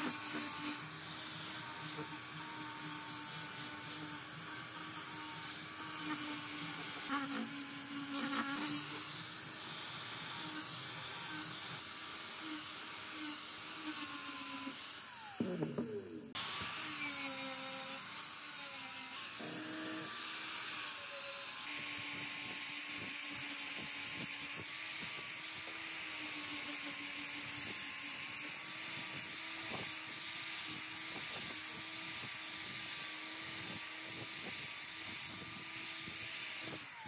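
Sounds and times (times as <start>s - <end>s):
angle grinder grinding metal: 0.0s - 37.0s.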